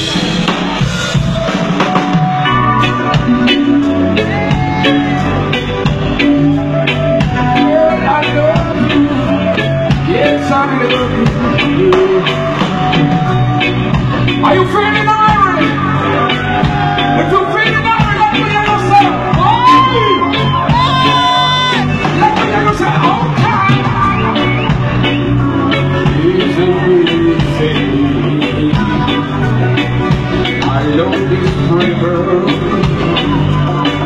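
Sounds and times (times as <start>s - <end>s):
bass: 0.0s - 34.0s
guitar: 0.0s - 34.0s
live band music: 0.0s - 34.0s
steady drum beat: 0.0s - 34.0s
person singing: 2.4s - 13.7s, 14.4s - 24.6s, 25.3s - 34.0s.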